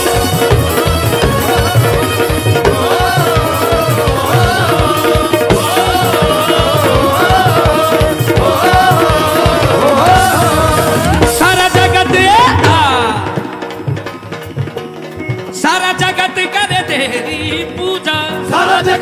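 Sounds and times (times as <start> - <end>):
devotional band music: 0.0 - 19.0
sliding melody line: 0.0 - 19.0
tabla beat: 0.0 - 19.0.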